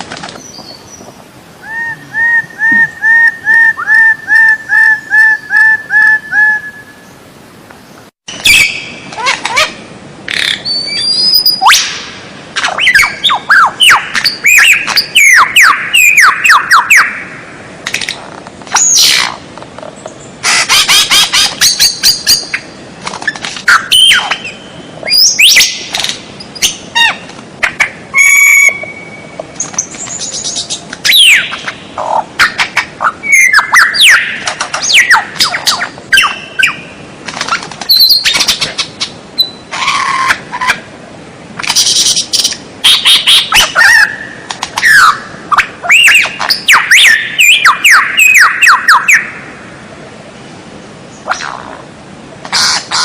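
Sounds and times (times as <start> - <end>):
songbird rapid varied song: 0.3 - 17.4, 18.7 - 40.8, 41.6 - 49.6.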